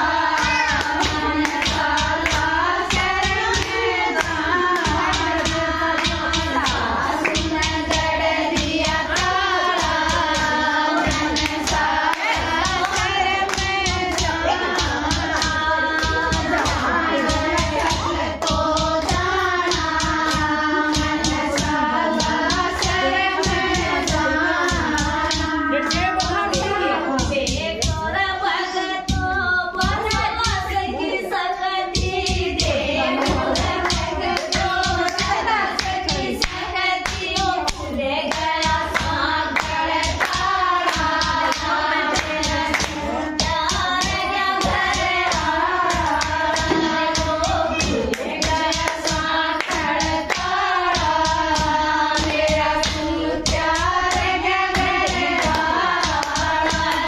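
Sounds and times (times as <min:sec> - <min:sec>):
rhythmic hand-clapping: 0:00.0 - 0:57.0
women singing devotional song: 0:00.0 - 0:57.0.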